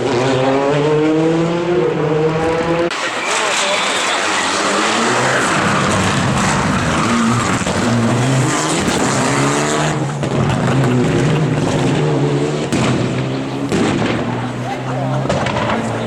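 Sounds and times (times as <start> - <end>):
rally car engine revving: 0.0 - 16.0
tyres skidding: 0.0 - 16.0.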